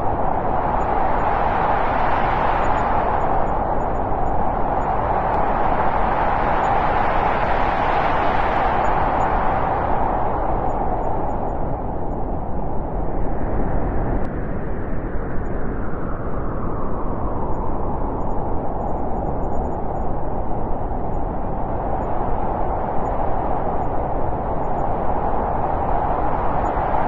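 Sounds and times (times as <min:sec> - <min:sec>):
rushing wind: 0:00.0 - 0:27.0.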